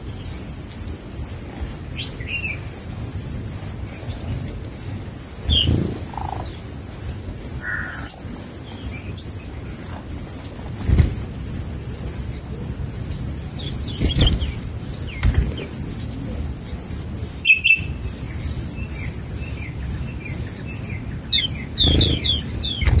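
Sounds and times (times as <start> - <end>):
nestlings cheeping: 1.6 - 23.0.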